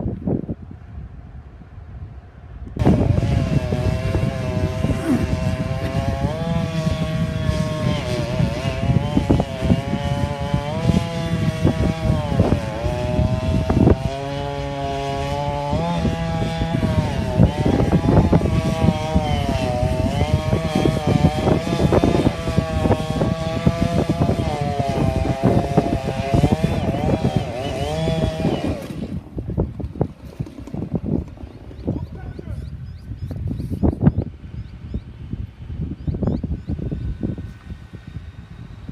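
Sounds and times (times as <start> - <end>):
chainsaw cutting tree: 2.8 - 38.9.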